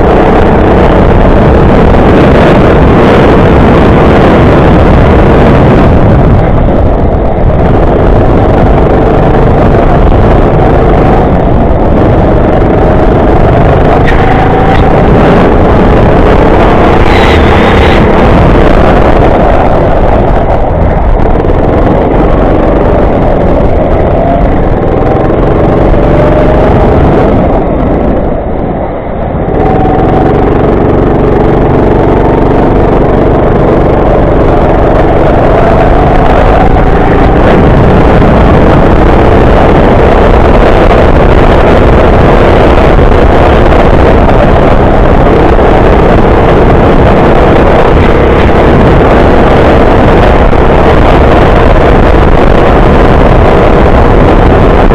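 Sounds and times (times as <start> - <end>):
go-kart engine running hard: 0.0 - 54.9.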